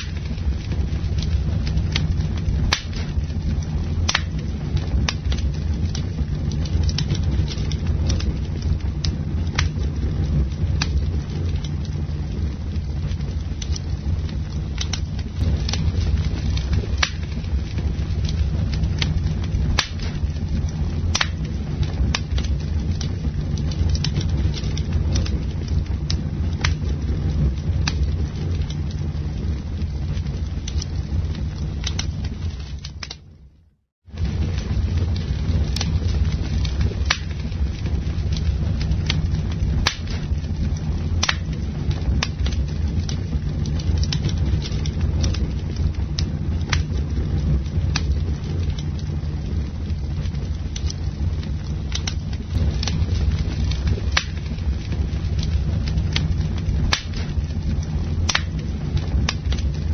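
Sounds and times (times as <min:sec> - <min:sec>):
campfire burning: 0:00.0 - 0:59.9
low fire rumble: 0:00.0 - 0:59.9
wood crackling and popping: 0:00.0 - 0:59.9.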